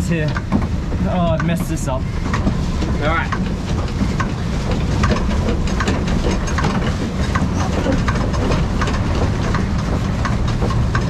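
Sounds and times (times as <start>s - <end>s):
pedal drive rumble: 0.0s - 11.0s
pedal mechanism clicking: 0.0s - 11.0s
water churning: 0.0s - 11.0s.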